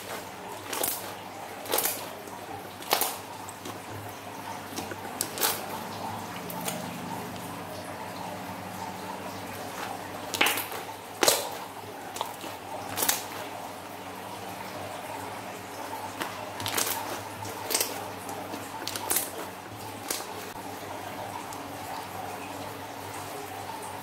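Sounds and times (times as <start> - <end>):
slime squishing wetly: 0.0 - 13.9, 15.6 - 22.6.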